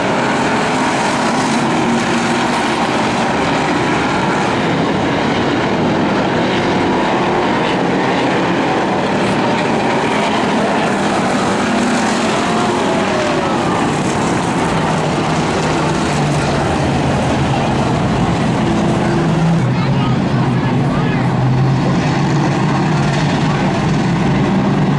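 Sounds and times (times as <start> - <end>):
race car engines roaring: 0.0 - 24.9.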